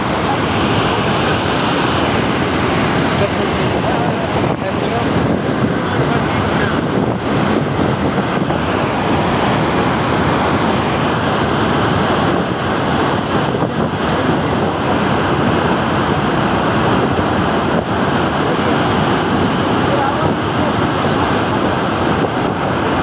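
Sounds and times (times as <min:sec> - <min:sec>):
rushing floodwater: 0:00.0 - 0:23.0.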